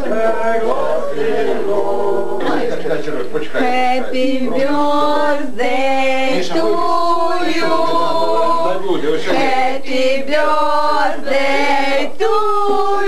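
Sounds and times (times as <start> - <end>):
group of people singing: 0.0 - 13.0.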